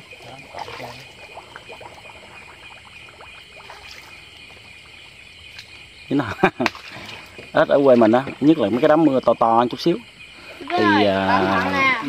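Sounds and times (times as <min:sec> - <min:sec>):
shallow water splashing: 0:00.0 - 0:12.0.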